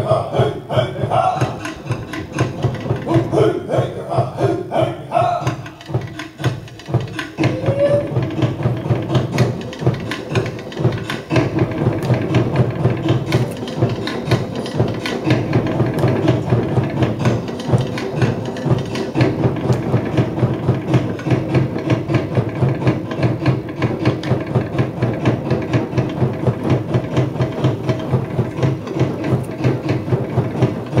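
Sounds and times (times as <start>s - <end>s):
deep drum beats: 0.0s - 31.0s
wooden slit drums beaten fast: 0.0s - 31.0s.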